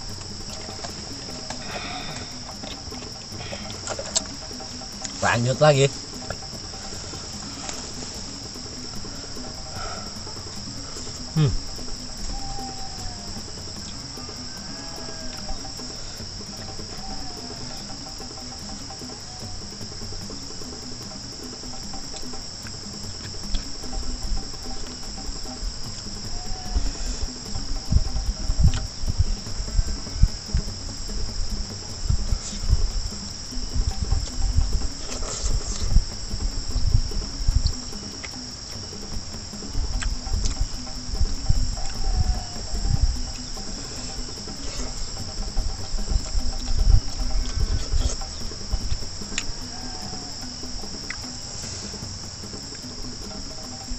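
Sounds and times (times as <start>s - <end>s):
man chewing food: 0.0s - 5.2s, 5.9s - 53.4s
insects shrilling: 0.0s - 53.9s.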